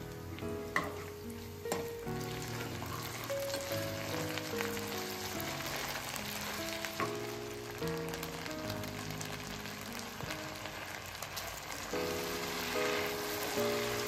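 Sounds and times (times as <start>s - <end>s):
food sizzling in hot oil: 0.0s - 14.0s
soft background music: 0.0s - 14.0s.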